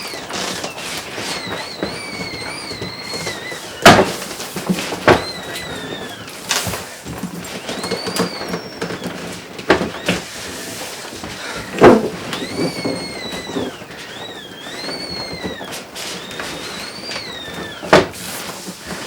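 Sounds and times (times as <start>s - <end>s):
high rising and falling whistles: 0.0s - 10.8s, 11.4s - 19.0s.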